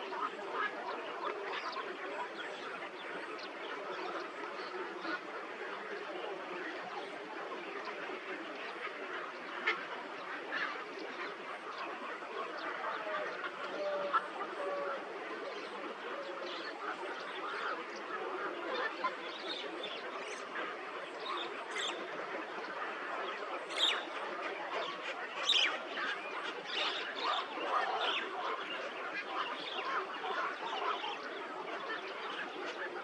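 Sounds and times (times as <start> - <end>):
chorus of bird calls: 0.0 - 33.0.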